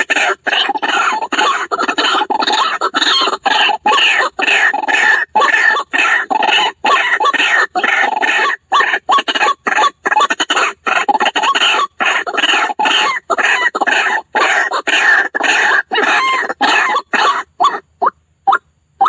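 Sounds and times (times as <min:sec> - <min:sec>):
waterhen harsh croaking calls: 0:00.0 - 0:19.0.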